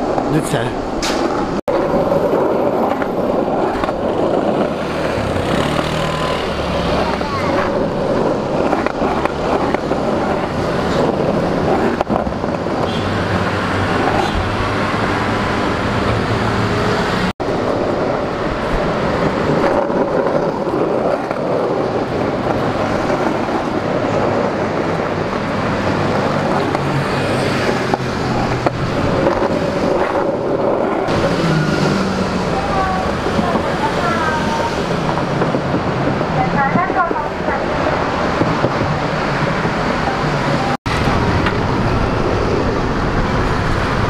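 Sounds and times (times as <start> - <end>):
busy street traffic: 0.0 - 44.0
wind rushing over microphone: 0.0 - 44.0.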